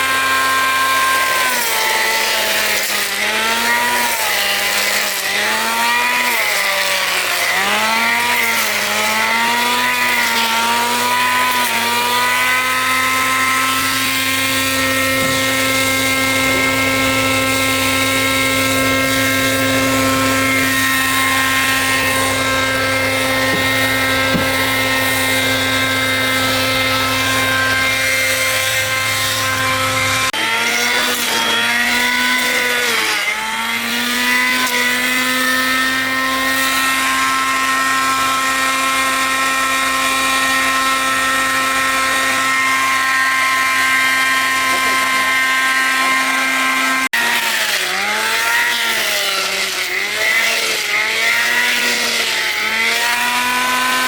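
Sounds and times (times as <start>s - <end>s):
power tool motor whining: 0.0s - 54.0s.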